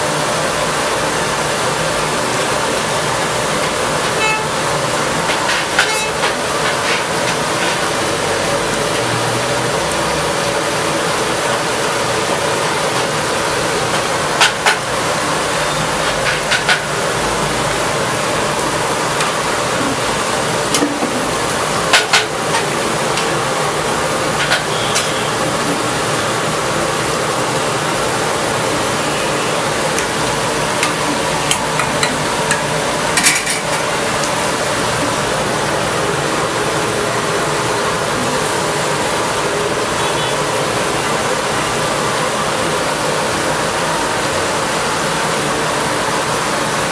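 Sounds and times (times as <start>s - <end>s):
chicken sizzling in oil: 0.1s - 46.9s.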